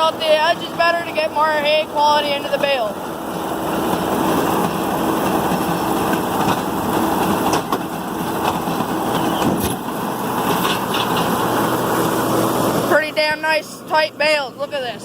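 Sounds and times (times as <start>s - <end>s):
tractor and baler running: 0.0s - 15.0s.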